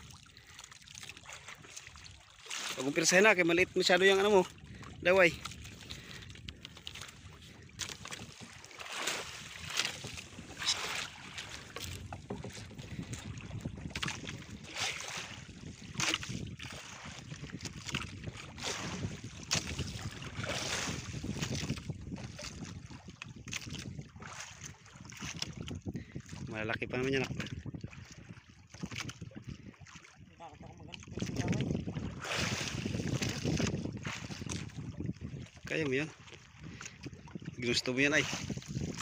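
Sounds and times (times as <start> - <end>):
water lapping against boat hull: 0.0 - 39.0
wind buffeting microphone: 3.3 - 39.0.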